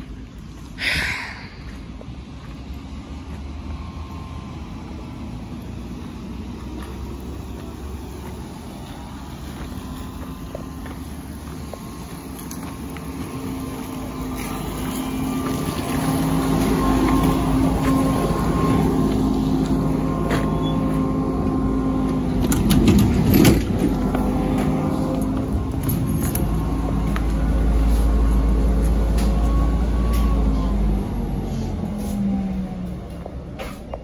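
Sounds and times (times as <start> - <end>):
trolleybus low rumble: 0.0 - 34.0.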